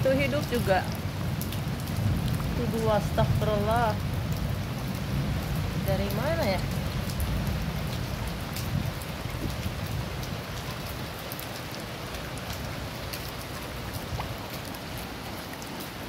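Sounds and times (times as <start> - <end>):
rain hissing on floodwater: 0.0 - 16.0.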